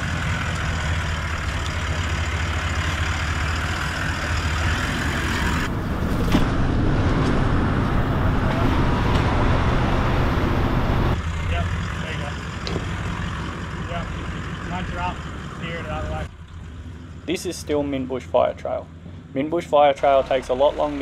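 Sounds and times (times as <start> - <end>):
off-road vehicle engine running low: 0.0 - 21.0.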